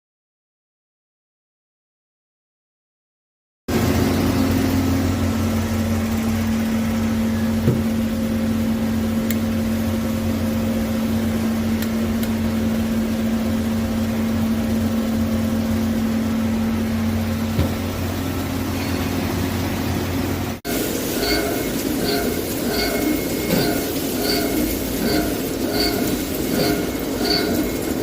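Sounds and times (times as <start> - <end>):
lathe motor hum: 3.7 - 28.0.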